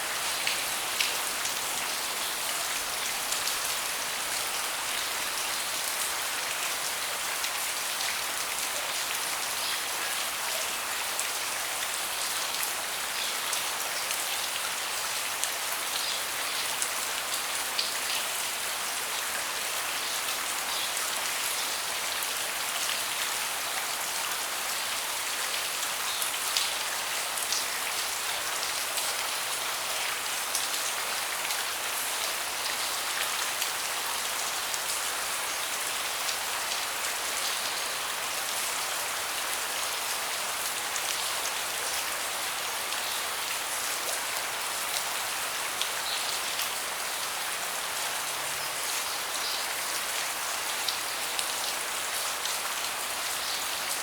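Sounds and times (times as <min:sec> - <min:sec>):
rain falling on a deck: 0:00.0 - 0:54.0.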